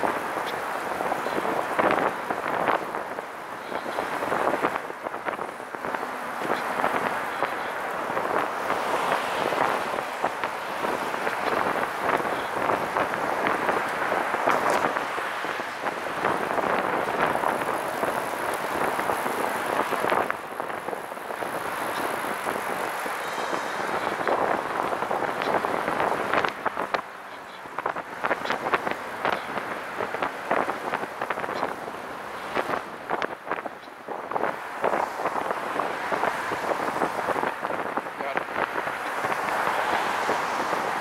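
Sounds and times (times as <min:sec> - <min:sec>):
passing traffic: 0:00.0 - 0:41.0
road and wind noise: 0:00.0 - 0:41.0.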